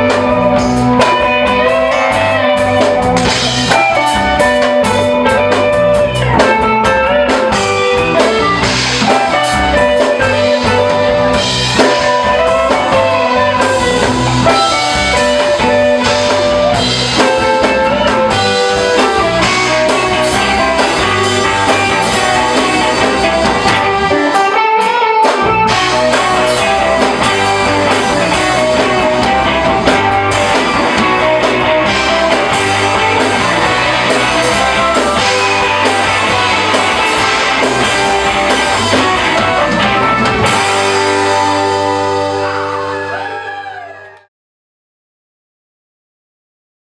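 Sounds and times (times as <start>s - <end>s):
drum kit: 0.0s - 44.2s
electric guitar lines: 0.0s - 44.2s
bass guitar: 0.0s - 44.3s.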